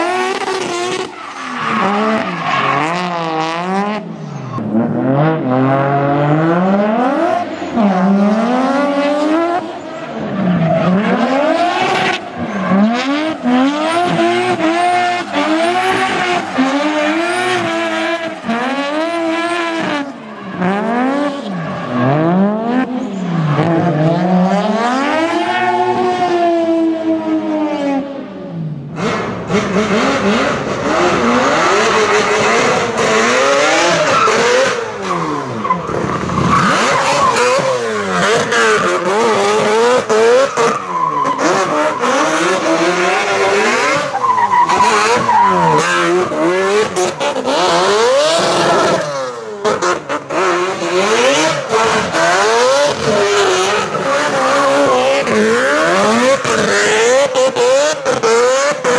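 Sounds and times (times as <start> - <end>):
tyre squeal and skidding: 0.0 - 4.7, 8.8 - 26.3, 31.4 - 58.9
car engines revving hard: 0.0 - 58.9.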